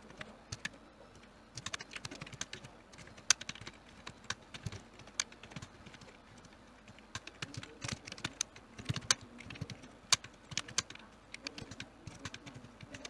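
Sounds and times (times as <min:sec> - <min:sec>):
keyboard typing: 0:00.0 - 0:13.0.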